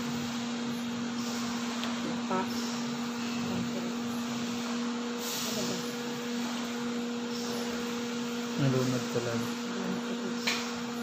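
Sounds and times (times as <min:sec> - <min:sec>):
appliance motor whirring: 0:00.0 - 0:11.0
low electrical hum: 0:00.0 - 0:11.0.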